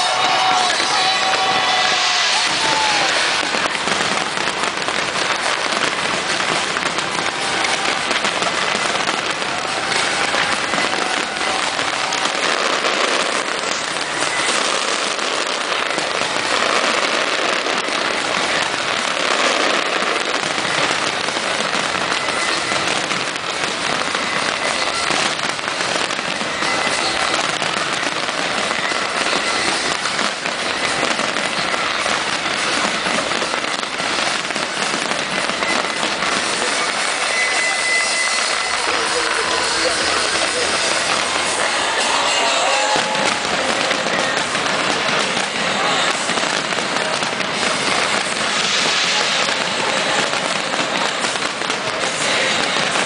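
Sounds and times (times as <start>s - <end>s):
fireworks crackling: 0.0s - 53.0s.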